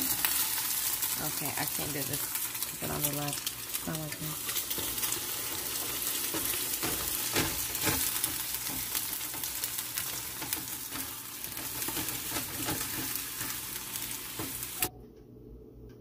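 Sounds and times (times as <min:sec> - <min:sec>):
food sizzling in a frying pan: 0:00.0 - 0:14.9.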